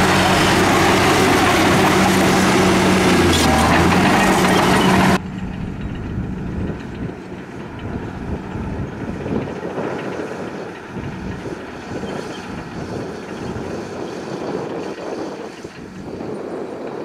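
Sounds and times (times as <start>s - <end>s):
diesel truck engine running: 0.0s - 16.9s
wind buffeting microphone: 0.0s - 17.0s.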